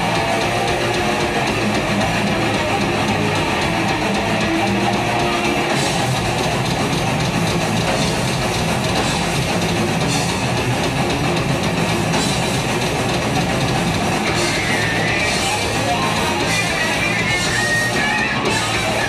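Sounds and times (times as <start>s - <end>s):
death metal band playing: 0.0s - 19.0s.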